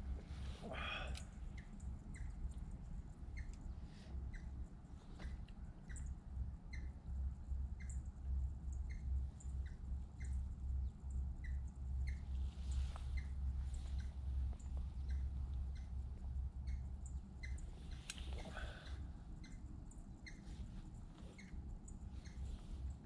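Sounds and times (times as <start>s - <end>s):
steady low rumble: 0.0s - 23.0s
small bird chirping: 0.1s - 23.0s.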